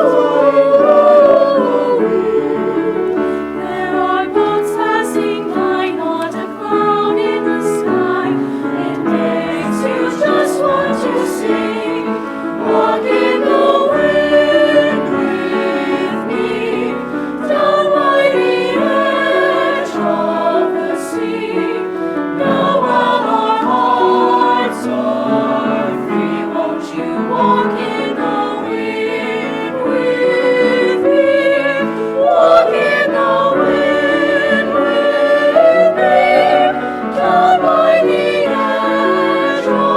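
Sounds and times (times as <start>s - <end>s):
choir singing in parts: 0.0s - 39.9s.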